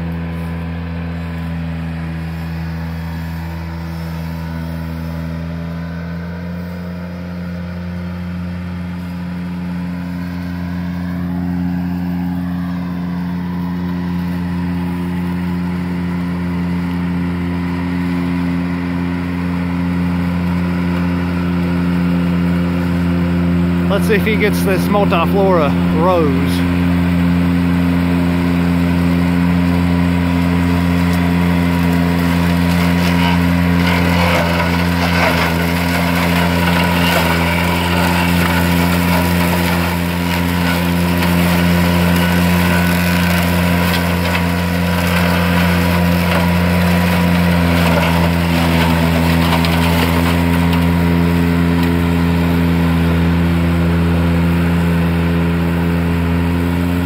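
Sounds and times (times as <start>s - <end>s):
mower cutting brush crackling: 0.0s - 57.0s
tractor engine running: 0.0s - 57.0s.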